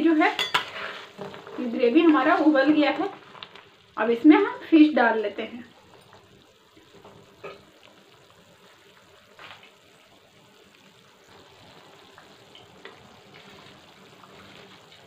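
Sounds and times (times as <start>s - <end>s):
gravy bubbling: 0.8s - 15.0s.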